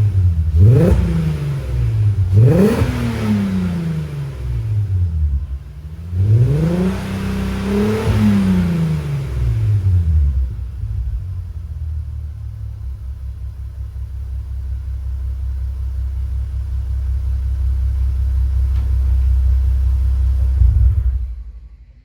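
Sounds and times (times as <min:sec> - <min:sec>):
car exhaust deep rumble: 0:00.0 - 0:22.0.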